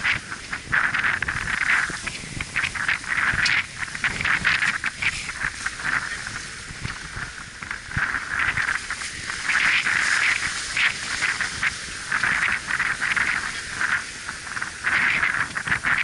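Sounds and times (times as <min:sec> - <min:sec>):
water rushing past hull: 0:00.0 - 0:16.0
wind buffeting microphone: 0:00.0 - 0:16.0.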